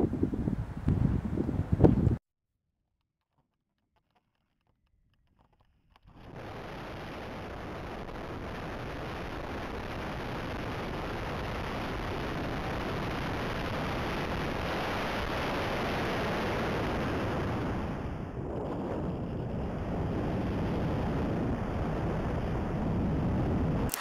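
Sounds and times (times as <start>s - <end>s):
wind noise from airflow: 0.0s - 2.2s, 6.1s - 24.0s.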